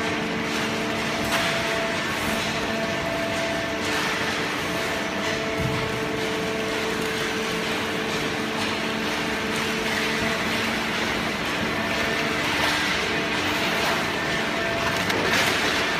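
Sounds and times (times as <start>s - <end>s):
baler machine humming: 0.0s - 15.9s.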